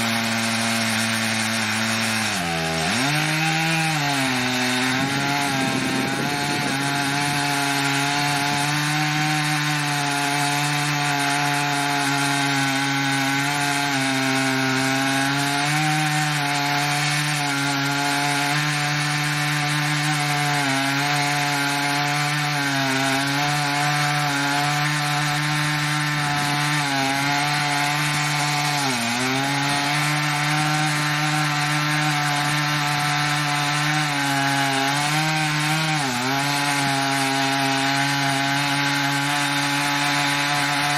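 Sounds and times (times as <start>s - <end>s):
chainsaw cutting through log: 0.0s - 40.9s.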